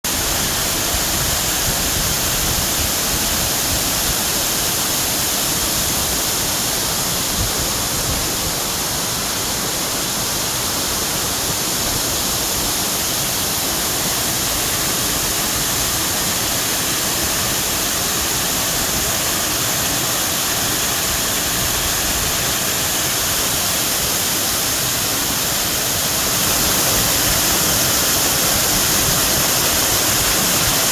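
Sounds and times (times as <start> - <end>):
steady rushing noise: 0.1 - 30.9.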